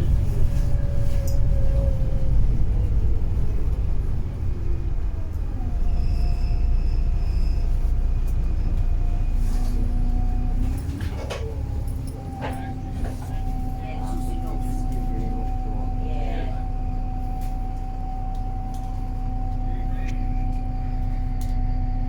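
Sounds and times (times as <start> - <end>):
bus diesel engine rumble: 0.0 - 22.0.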